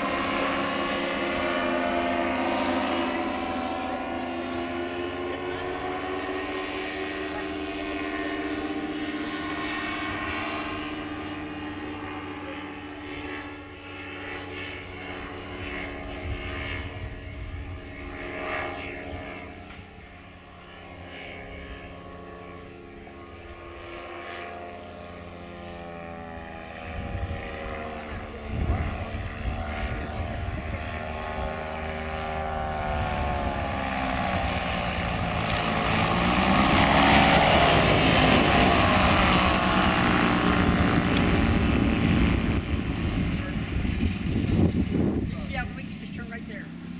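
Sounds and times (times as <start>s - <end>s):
ultralight plane engine and propeller: 0.0s - 46.9s.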